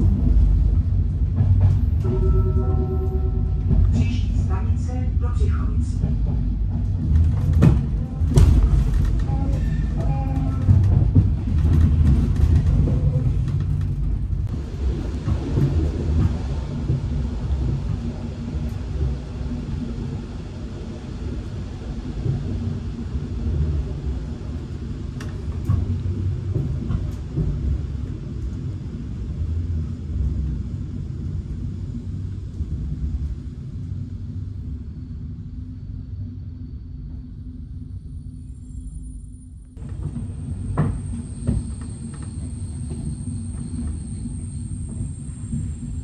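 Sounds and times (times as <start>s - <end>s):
train wheels rumbling on rails: 0.0s - 37.9s, 39.8s - 46.0s.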